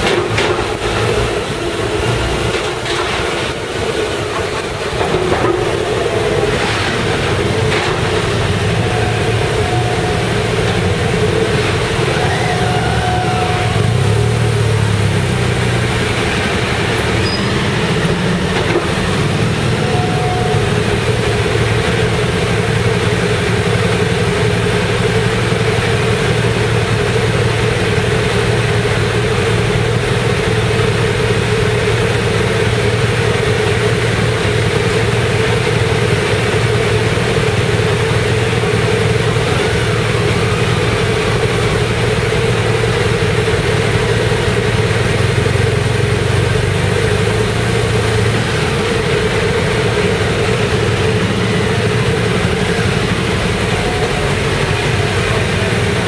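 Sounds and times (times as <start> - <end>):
motorcycle engines idling: 0.0 - 56.0.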